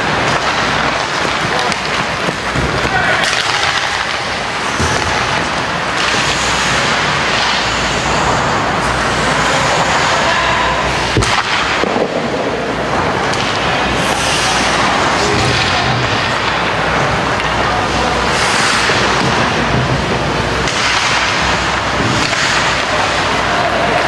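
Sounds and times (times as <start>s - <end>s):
indoor ice hockey game noise: 0.0s - 24.0s
sharp crack: 0.0s - 24.0s.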